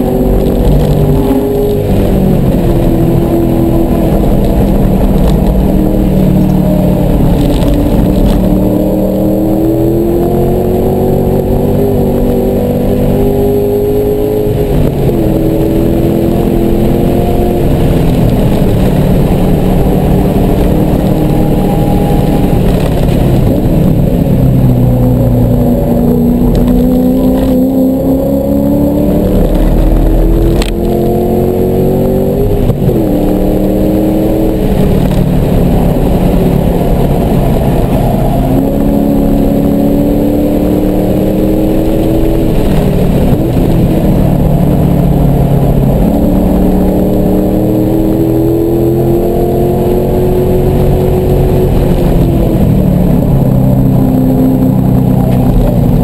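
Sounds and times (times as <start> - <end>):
car engine at full throttle: 0.0 - 56.0.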